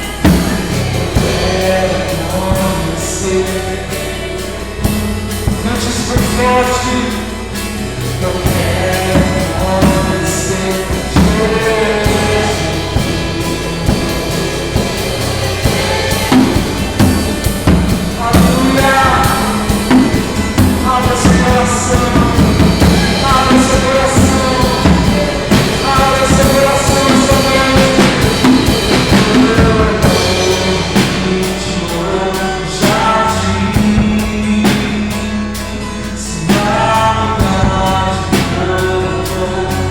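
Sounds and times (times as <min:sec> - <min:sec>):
acoustic guitar: 0:00.0 - 0:39.9
drum kit: 0:00.0 - 0:39.9
person singing: 0:00.0 - 0:39.9.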